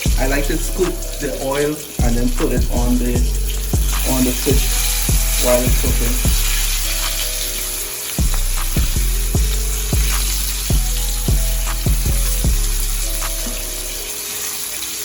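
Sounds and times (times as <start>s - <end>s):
instrumental music with kick drum: 0.0s - 14.2s
fish sizzling in hot oil: 0.0s - 15.0s.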